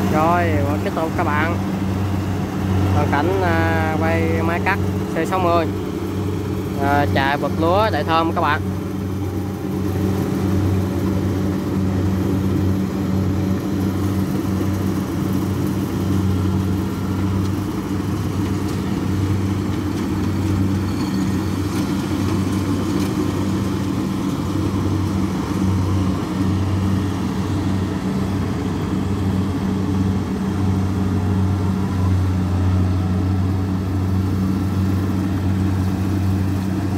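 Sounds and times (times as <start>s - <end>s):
diesel engine droning: 0.0s - 36.9s
harvesting machinery clattering: 0.0s - 36.9s.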